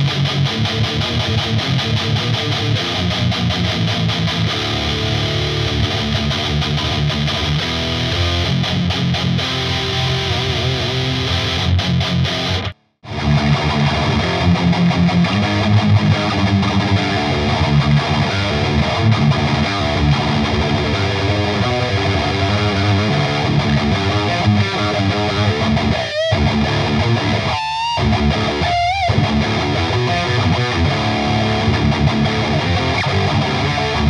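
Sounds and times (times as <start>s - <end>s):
distorted electric guitar riffing: 0.0s - 34.0s.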